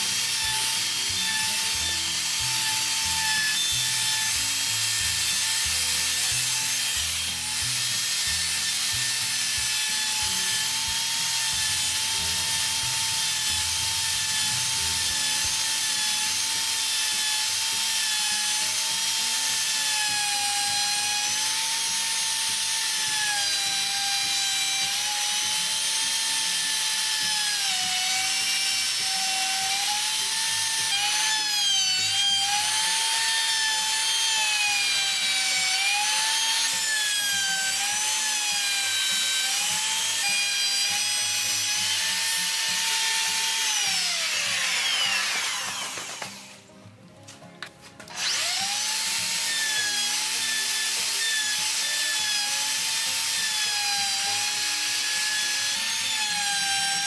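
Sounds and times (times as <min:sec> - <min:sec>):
router high whine: 0:00.0 - 0:46.6, 0:48.1 - 0:57.0.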